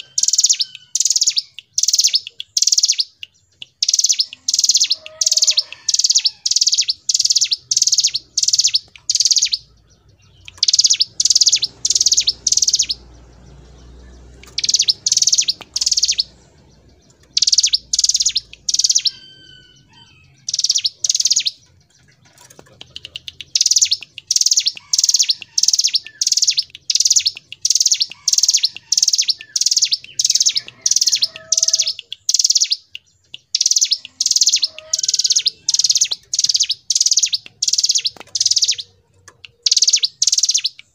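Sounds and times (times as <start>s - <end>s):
bird singing sharp high notes: 0.0s - 39.0s, 39.6s - 40.9s
faint low bird chirps: 0.0s - 40.9s.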